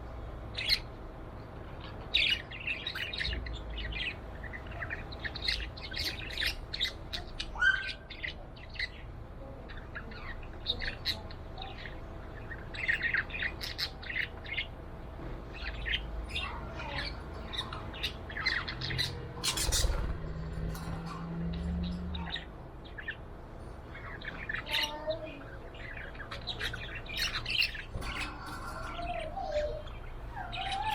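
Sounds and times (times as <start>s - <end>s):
budgerigar chirping and chattering: 1.7s - 9.1s, 9.7s - 14.7s, 15.6s - 23.2s, 23.9s - 30.9s.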